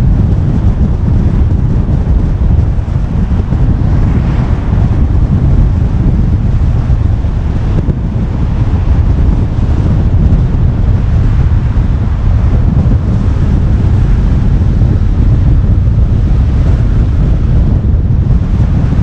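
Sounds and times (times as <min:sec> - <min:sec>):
car road noise: 0:00.0 - 0:19.0
wind buffeting microphone: 0:00.0 - 0:19.0.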